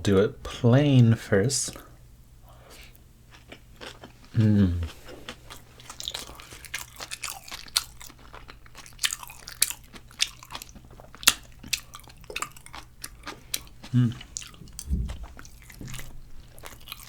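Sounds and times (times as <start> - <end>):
person chewing food: 2.5 - 17.0.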